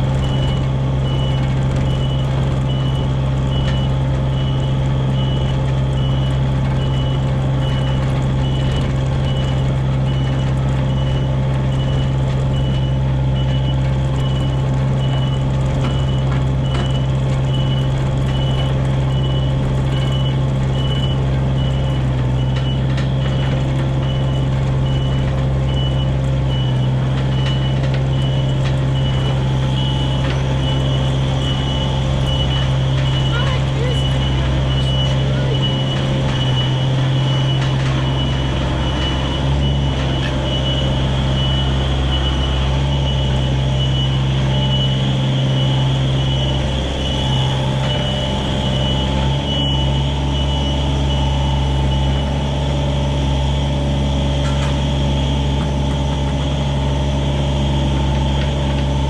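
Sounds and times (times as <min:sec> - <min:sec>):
diesel excavator engine running: 0:00.0 - 0:59.0
travel alarm beeping: 0:00.1 - 0:59.0.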